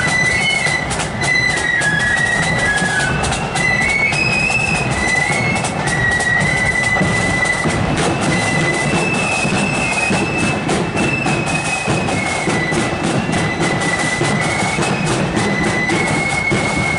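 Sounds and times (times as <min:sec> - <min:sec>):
flute band playing melody: 0:00.0 - 0:16.9
regular marching beat: 0:00.0 - 0:16.9.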